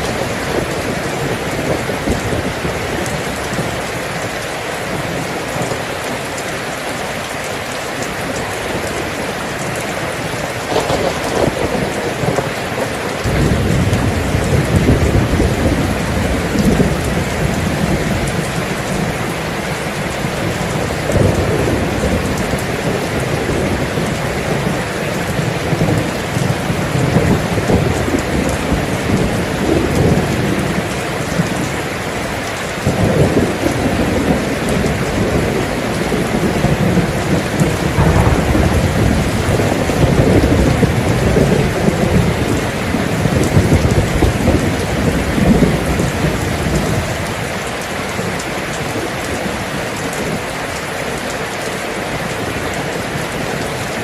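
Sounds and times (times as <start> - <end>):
thunder rumbling: 0.0 - 50.4
heavy rain: 0.0 - 54.0.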